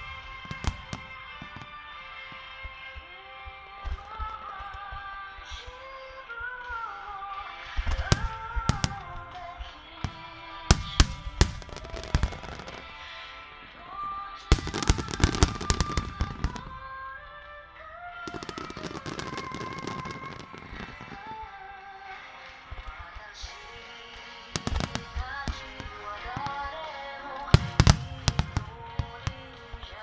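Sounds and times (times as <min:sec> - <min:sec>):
firework shells bursting: 0:00.0 - 0:17.1, 0:18.2 - 0:30.0
firework crackle: 0:00.0 - 0:30.0
music over loudspeakers: 0:00.0 - 0:30.0.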